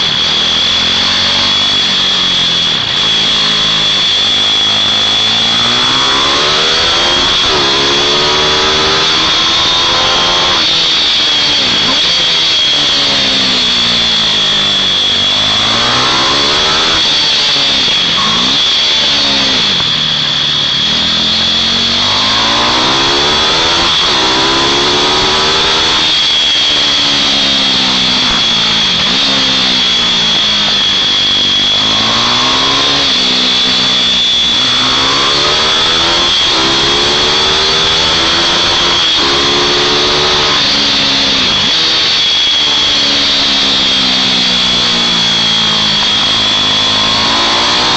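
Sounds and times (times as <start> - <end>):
mini bike engines racing: 0.0 - 47.9
steady high whine: 0.0 - 47.9.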